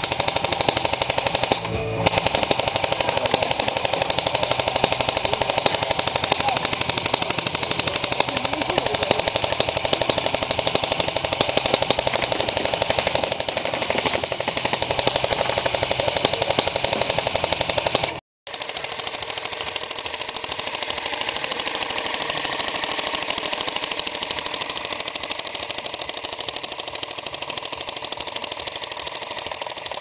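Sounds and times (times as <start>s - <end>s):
airsoft gun firing full auto: 0.0s - 30.0s.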